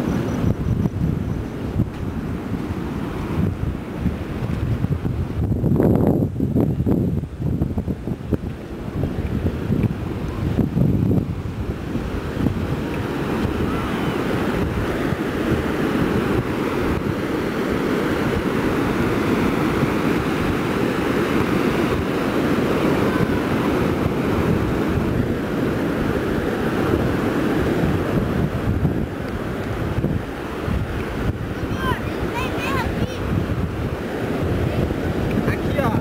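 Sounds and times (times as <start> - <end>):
sea surf: 0.0 - 36.0
wind rumbling on microphone: 0.0 - 36.0.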